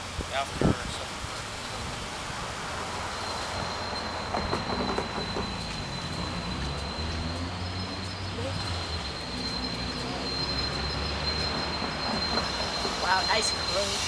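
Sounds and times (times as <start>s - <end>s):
train engine drone: 0.0s - 14.0s
high wheel squeal: 1.3s - 14.0s.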